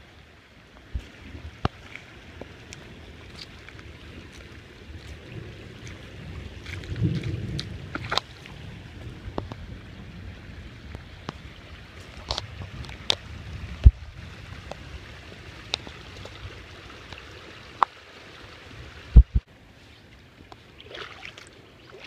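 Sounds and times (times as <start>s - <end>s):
floodwater flowing: 0.0s - 22.0s.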